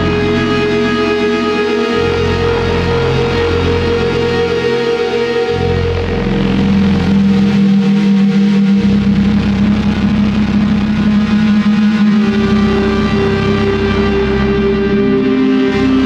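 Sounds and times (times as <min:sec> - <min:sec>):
loud droning intro sting: 0:00.0 - 0:16.0
pulsing low rumble: 0:02.0 - 0:16.0.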